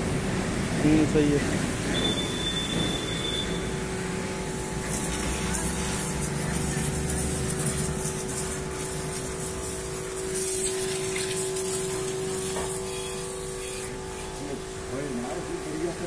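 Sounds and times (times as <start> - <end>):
spray pump humming: 0.0 - 16.0
high-pressure water jet hissing: 0.1 - 16.0.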